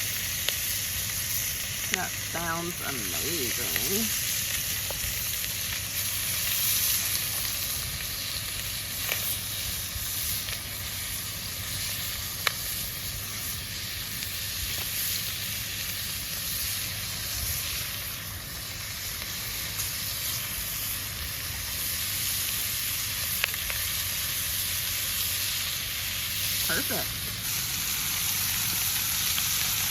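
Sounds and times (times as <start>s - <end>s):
fish sizzling in a pan: 0.0s - 29.9s.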